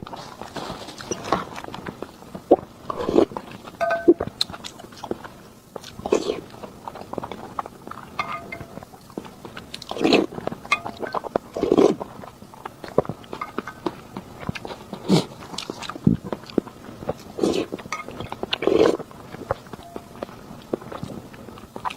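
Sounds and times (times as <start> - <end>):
person biting and chewing food: 0.0 - 21.9.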